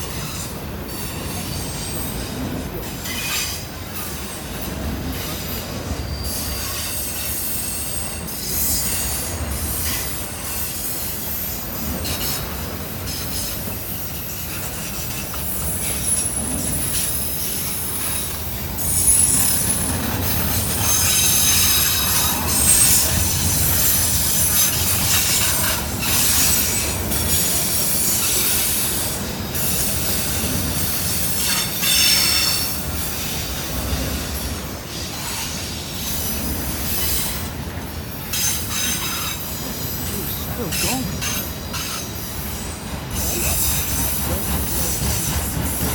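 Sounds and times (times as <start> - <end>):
train rumbling on rails: 0.0 - 45.9.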